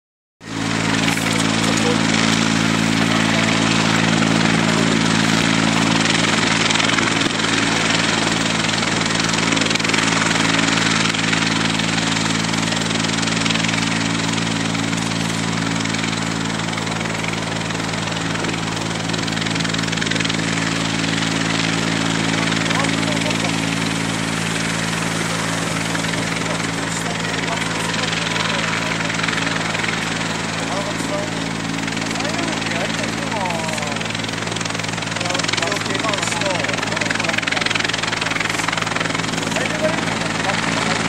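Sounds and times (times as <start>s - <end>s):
helicopter running: 0.4s - 41.0s.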